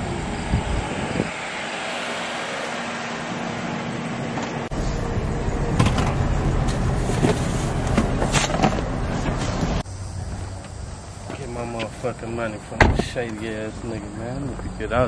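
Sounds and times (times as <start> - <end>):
engine and road rumble: 0.0 - 15.0
road and wind noise: 0.0 - 15.0.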